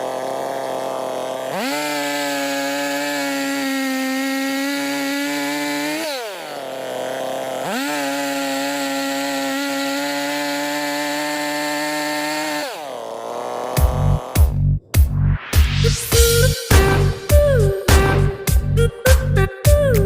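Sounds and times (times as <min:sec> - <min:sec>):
chainsaw revving: 0:00.0 - 0:14.7, 0:15.7 - 0:19.5.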